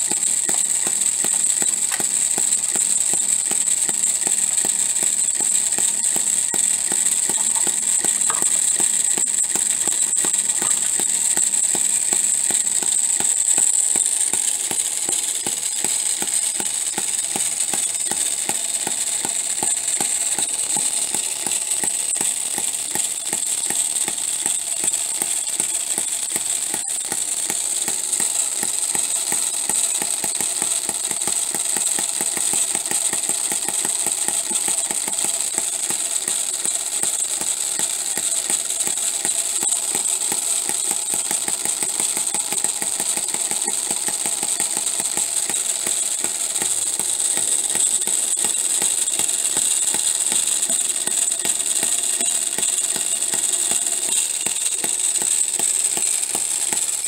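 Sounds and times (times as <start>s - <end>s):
small engine clattering: 0.0s - 57.0s.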